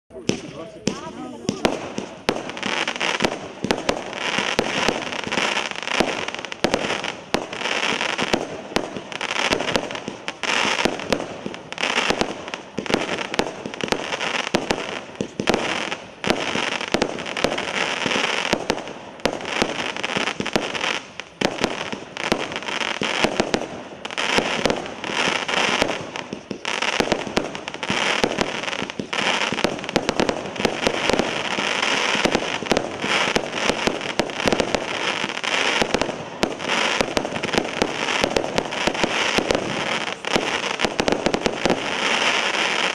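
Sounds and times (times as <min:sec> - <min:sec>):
firework crackle: 0:00.1 - 0:42.9.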